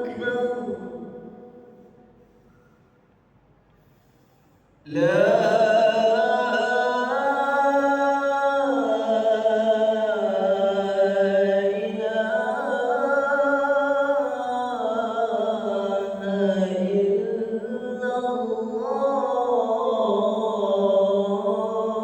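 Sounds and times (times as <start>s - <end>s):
man chanting call to prayer: 0.0s - 1.3s, 4.9s - 22.0s.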